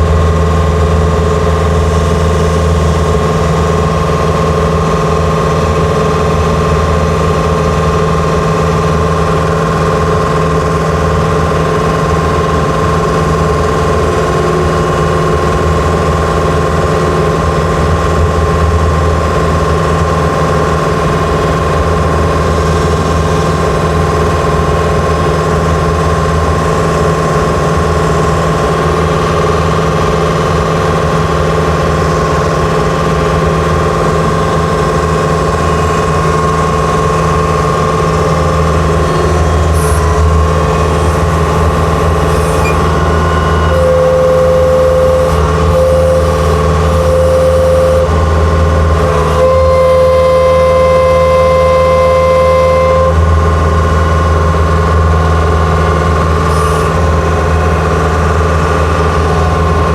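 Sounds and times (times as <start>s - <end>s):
skid steer engine running: 0.0s - 59.9s
whining tone: 0.0s - 59.9s.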